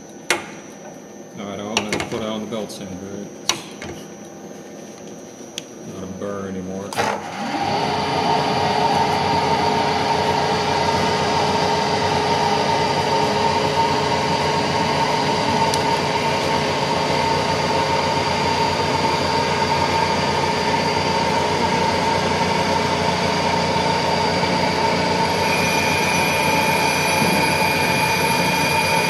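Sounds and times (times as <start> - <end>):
milling machine spindle whine: 0.0 - 29.0.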